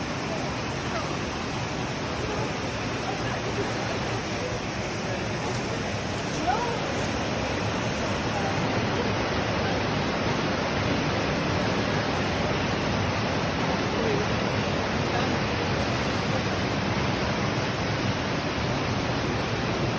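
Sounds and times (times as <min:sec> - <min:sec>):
water rushing: 0:00.0 - 0:19.9.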